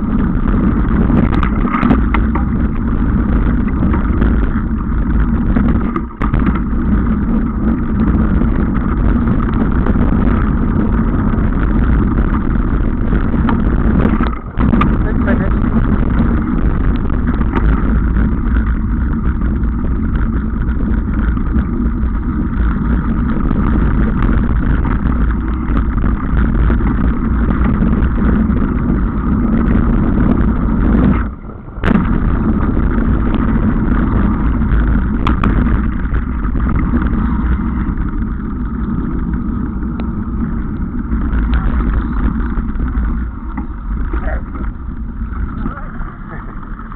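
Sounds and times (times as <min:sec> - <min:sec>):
bicycle tyre and frame rattle: 0:00.0 - 0:46.9
wind rushing on microphone: 0:00.0 - 0:46.9.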